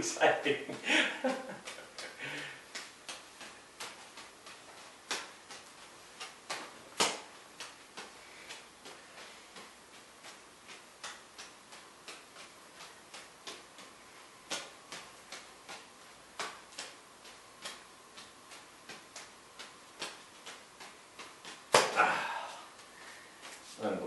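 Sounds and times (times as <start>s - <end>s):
juggling balls slapping into hands: 0.0s - 23.8s.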